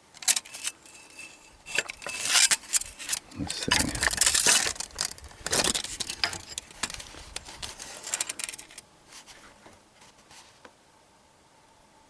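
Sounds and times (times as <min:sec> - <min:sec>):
handling clicks and rustling: 0:00.0 - 0:10.6.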